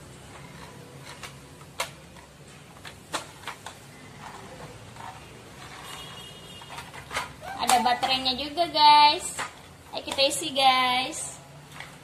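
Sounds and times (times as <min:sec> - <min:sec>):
plastic toy clicks and knocks: 0:00.2 - 0:08.6, 0:09.2 - 0:10.6.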